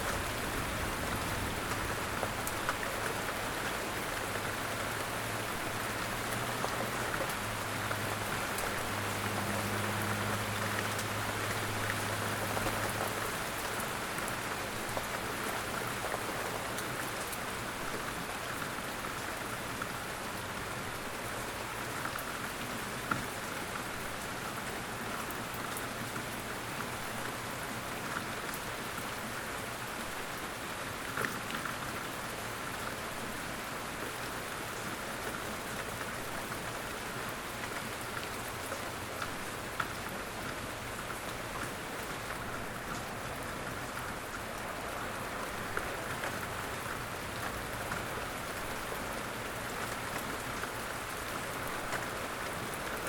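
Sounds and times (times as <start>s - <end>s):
light rain pattering: 0.0s - 53.0s.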